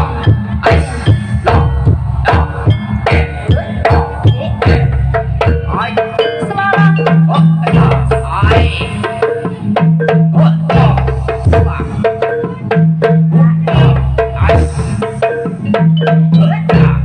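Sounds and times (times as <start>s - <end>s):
hand drums beating: 0.0s - 17.0s
pitched percussion: 0.0s - 17.0s.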